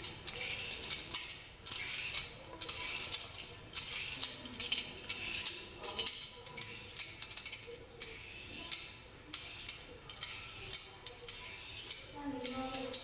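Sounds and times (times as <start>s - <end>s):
peeler scraping cucumber: 0.0s - 13.0s.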